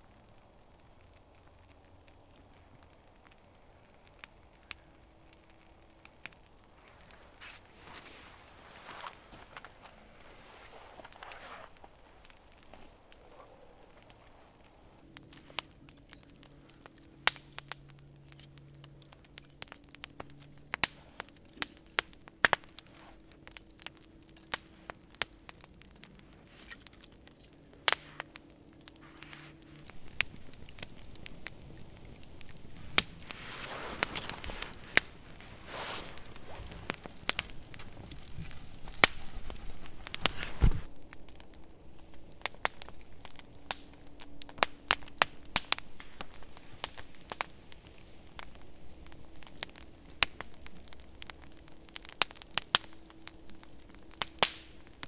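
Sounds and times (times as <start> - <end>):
log fire crackling: 0.0 - 55.0
sharp pops of fire: 0.8 - 55.0.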